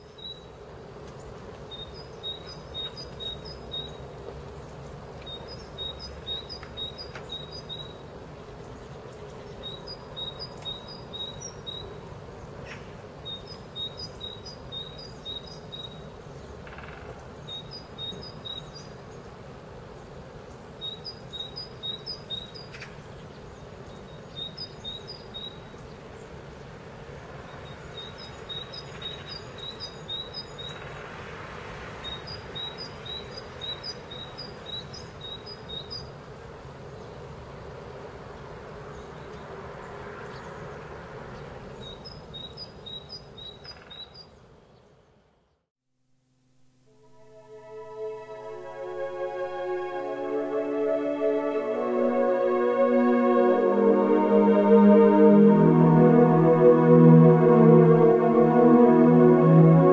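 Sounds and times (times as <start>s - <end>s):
songbird chirping: 0.0s - 31.2s, 31.8s - 36.2s, 38.4s - 45.6s, 47.0s - 59.9s
low background noise: 0.0s - 59.9s.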